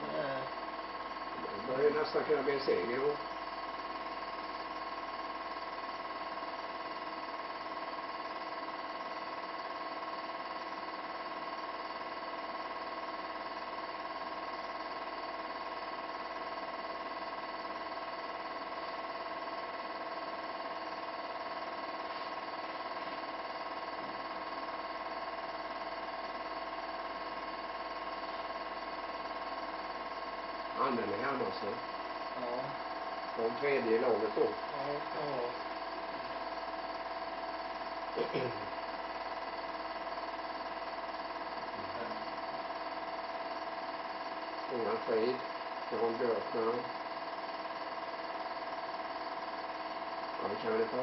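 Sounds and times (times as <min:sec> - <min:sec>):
steady hum of held tones: 0:00.0 - 0:51.0.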